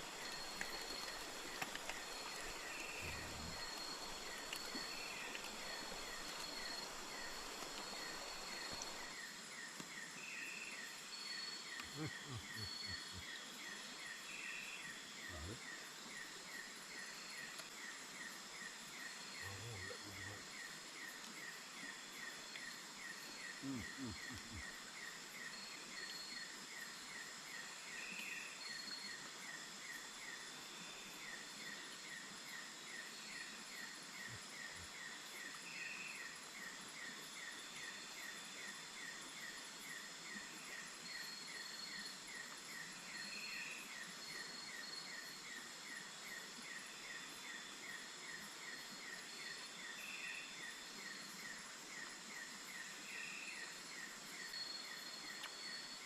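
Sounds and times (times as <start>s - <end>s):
background hiss: 0.0s - 56.0s
insects buzzing: 0.0s - 56.0s
rhythmic insect chirping: 0.0s - 56.0s.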